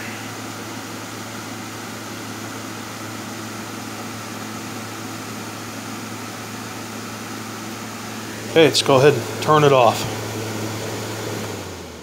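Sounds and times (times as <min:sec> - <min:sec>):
fan air rushing: 0:00.0 - 0:12.0
low motor hum: 0:00.0 - 0:12.0.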